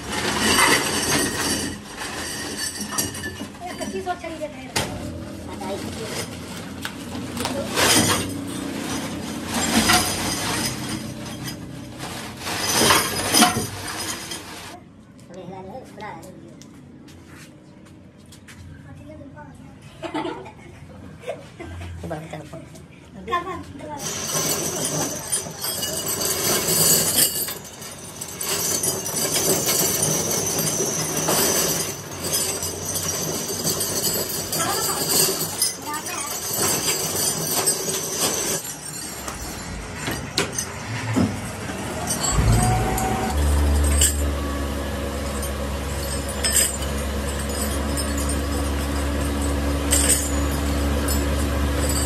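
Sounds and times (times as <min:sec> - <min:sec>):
metal parts clattering: 0:00.0 - 0:14.8, 0:24.0 - 0:52.0
workshop hum: 0:00.0 - 0:52.0.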